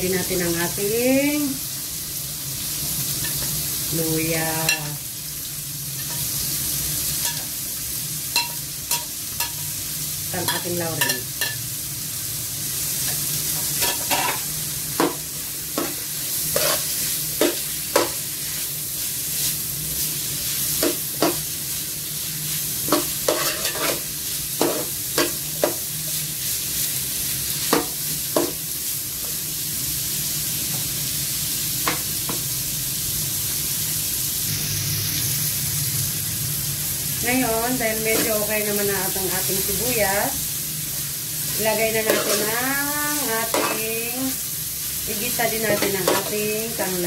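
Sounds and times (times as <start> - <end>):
food sizzling in oil: 0.0 - 47.0.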